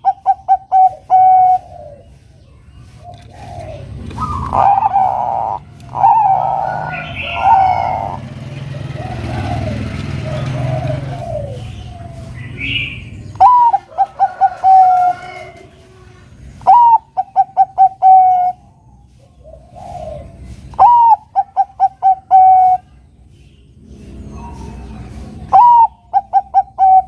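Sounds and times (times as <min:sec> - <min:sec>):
dove cooing song: 0:00.0 - 0:27.0.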